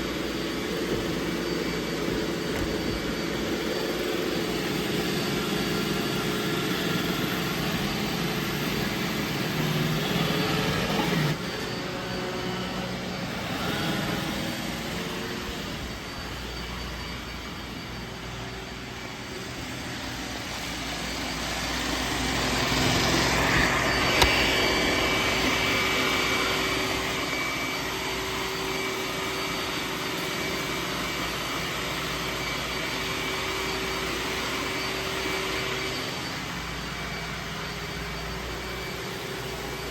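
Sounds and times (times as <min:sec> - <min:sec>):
robot vacuum motor whirr: 0:00.0 - 0:39.9.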